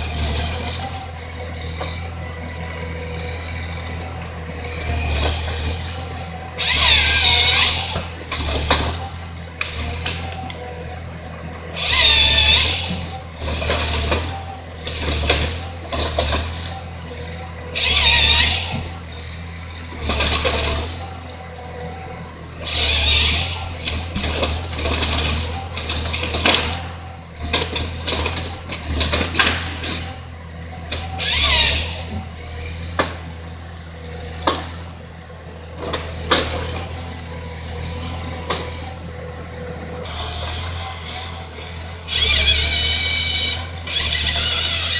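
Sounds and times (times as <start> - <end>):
chain saw cutting logs: 0.0 - 44.9
diesel engine running: 0.0 - 44.9.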